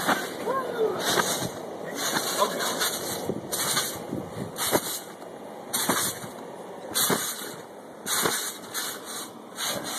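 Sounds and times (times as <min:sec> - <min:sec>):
trampoline springs creaking: 0:00.0 - 0:09.9.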